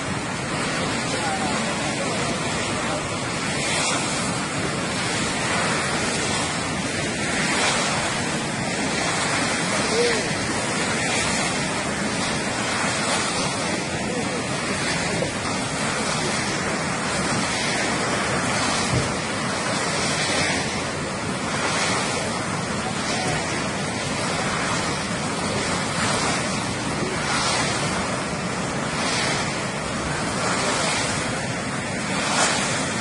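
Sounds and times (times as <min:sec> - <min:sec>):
river water rushing: 0:00.0 - 0:33.0
wind buffeting microphone: 0:00.0 - 0:33.0.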